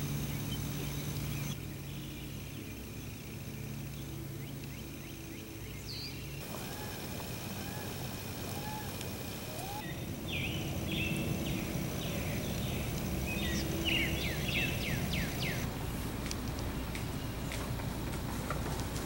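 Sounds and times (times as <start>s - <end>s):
small birds chirping: 0.0s - 16.0s
outdoor background noise: 0.0s - 19.0s.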